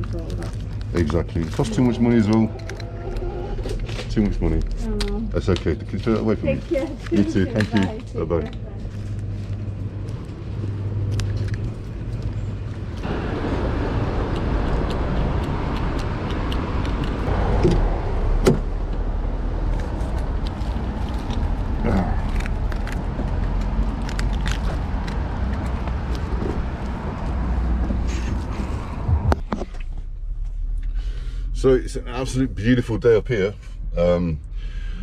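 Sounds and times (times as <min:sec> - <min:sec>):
road traffic and engine noise: 0:00.0 - 0:35.0.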